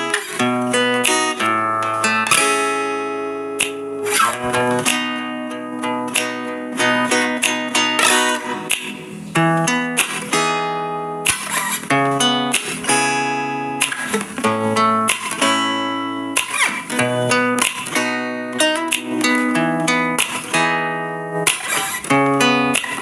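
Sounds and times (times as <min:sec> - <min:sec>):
acoustic guitar melody: 0:00.0 - 0:23.0.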